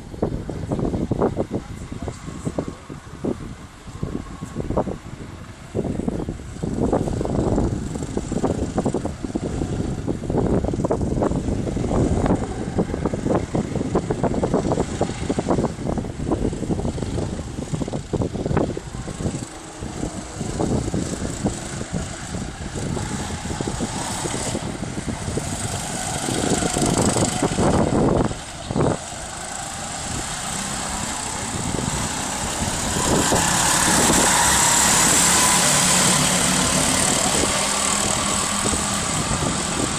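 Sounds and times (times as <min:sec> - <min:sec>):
go-kart engines running: 0:00.0 - 0:39.9.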